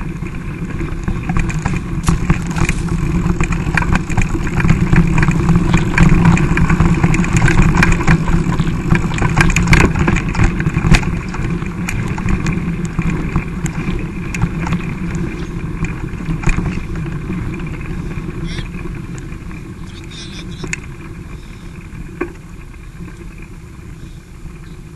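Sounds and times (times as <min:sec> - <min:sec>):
bike rattles and knocks: 0:00.0 - 0:23.9
wind and rolling tyres rumble: 0:00.0 - 0:24.9.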